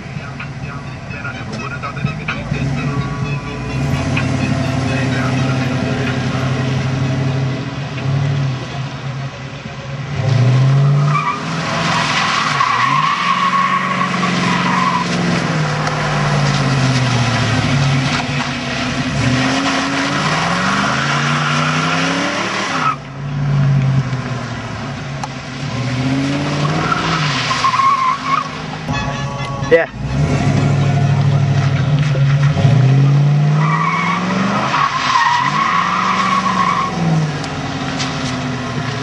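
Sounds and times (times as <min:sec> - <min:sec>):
tires squealing on pavement: 0:00.0 - 0:08.6, 0:10.1 - 0:23.8, 0:25.5 - 0:39.0
car engine revving: 0:00.0 - 0:39.0.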